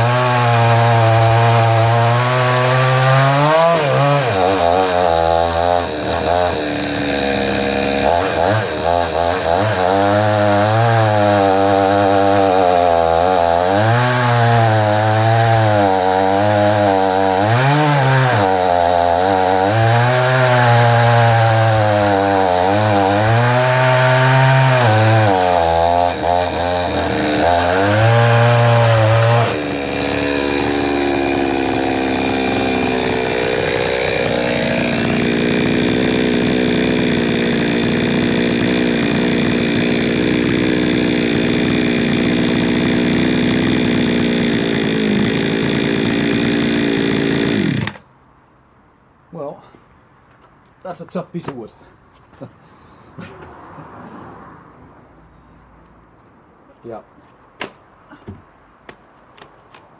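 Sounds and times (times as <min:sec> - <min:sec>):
chainsaw cutting into wood: 0:00.0 - 0:48.1.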